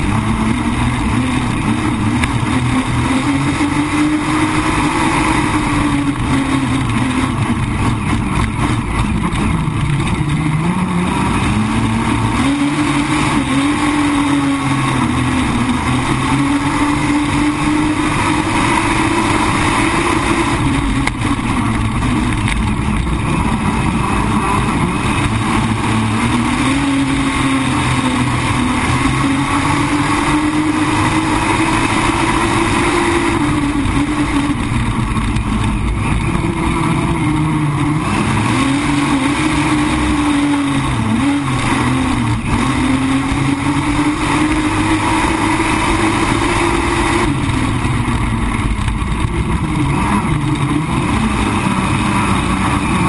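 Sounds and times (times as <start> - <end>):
race boat engine revving: 0.0 - 53.0.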